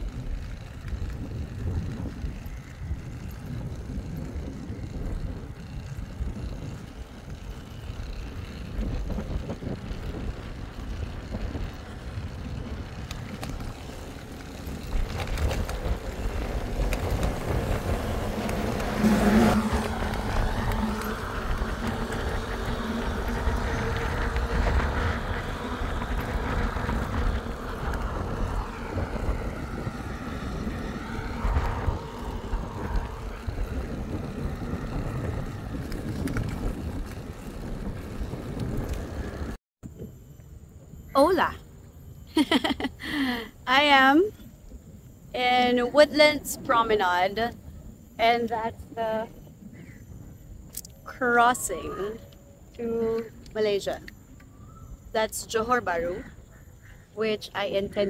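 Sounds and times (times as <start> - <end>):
road traffic passing: 0.0 - 58.0
wind rumbling on microphone: 0.0 - 58.0.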